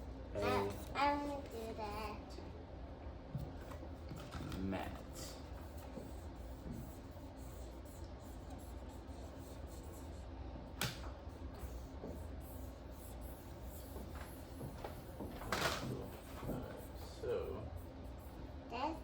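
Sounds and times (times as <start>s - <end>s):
low room hum: 0.0s - 19.0s
marker writing strokes: 3.4s - 19.0s.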